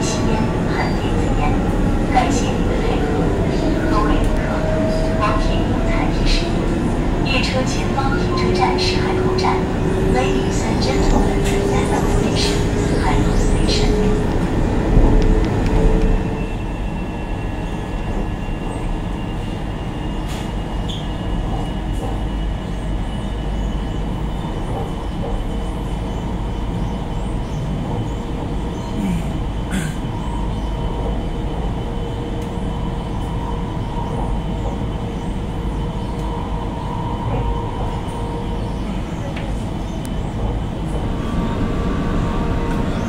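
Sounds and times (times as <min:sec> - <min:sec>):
train carriage low rumble: 0:00.0 - 0:43.0.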